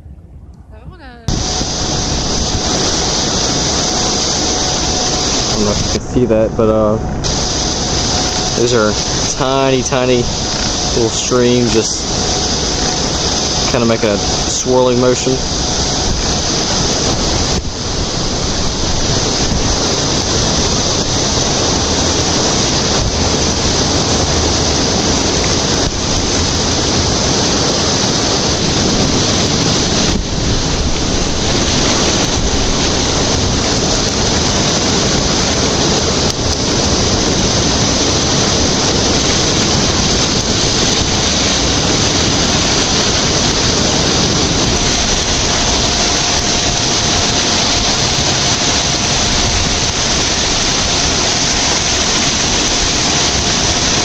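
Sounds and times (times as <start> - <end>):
water rushing in a whirlpool: 0.7 - 54.0.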